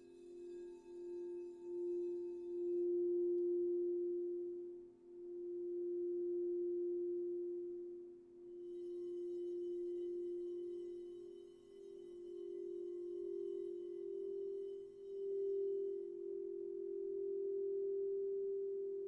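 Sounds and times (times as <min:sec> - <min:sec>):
singing bowl deep tone: 0:00.0 - 0:19.0.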